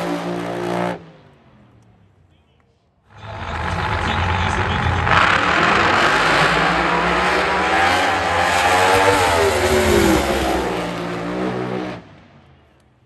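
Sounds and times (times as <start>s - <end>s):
drag racing engines roaring: 0.0s - 2.3s, 3.1s - 13.0s.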